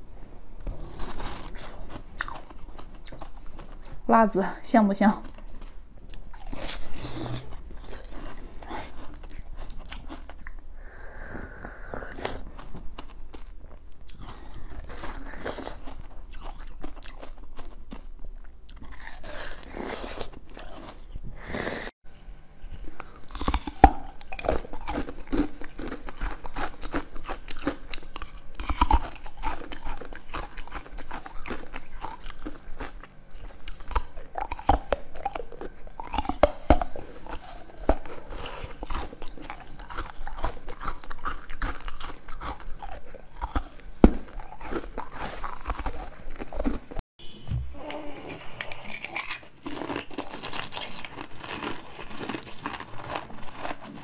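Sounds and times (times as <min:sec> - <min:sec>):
chewing jelly sweets: 0:00.6 - 0:21.9, 0:22.7 - 0:47.0, 0:47.8 - 0:54.0.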